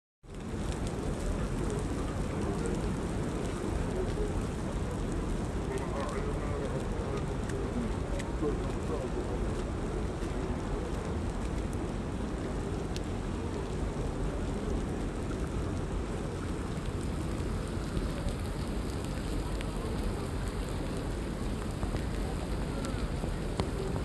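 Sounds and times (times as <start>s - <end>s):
rain falling: 0.2s - 24.0s
raindrop ticks: 0.2s - 24.0s.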